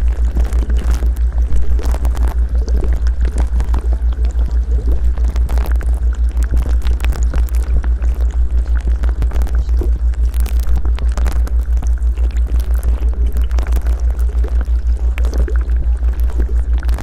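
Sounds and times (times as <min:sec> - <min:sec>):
deep pulsing hum: 0:00.0 - 0:17.0.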